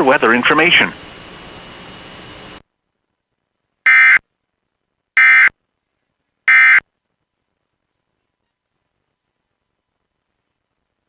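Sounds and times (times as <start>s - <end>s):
faint static hiss: 0.0s - 11.0s.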